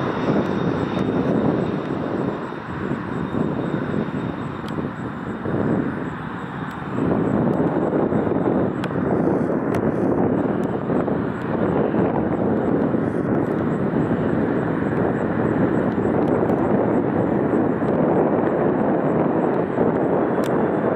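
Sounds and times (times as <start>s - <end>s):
jet engines running: 0.0s - 20.9s.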